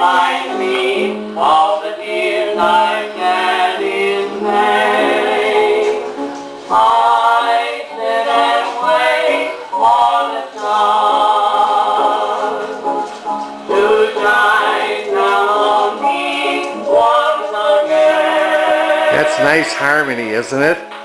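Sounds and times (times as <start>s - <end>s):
old record of harmony singing: 0.0s - 21.0s.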